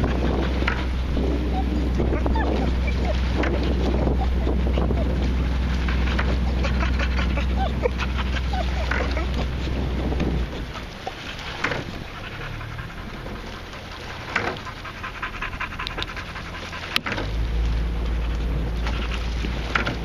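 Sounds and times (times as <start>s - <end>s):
low rumble: 0.0s - 20.0s
oar blades splashing: 0.0s - 20.0s
rigging clacking: 0.0s - 20.0s.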